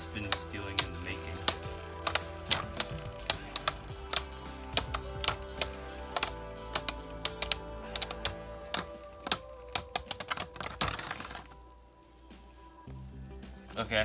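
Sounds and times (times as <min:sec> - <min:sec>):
spinning hum: 0:00.0 - 0:14.0.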